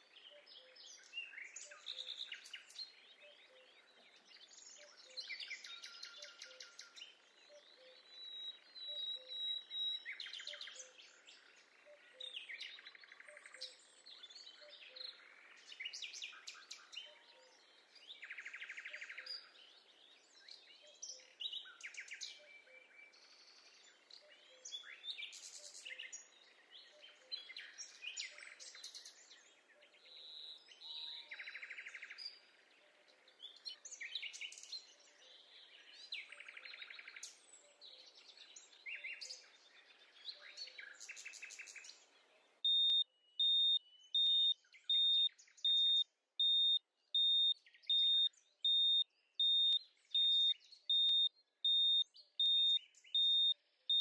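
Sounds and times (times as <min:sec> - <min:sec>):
songbirds singing and calling: 0:00.0 - 0:54.0.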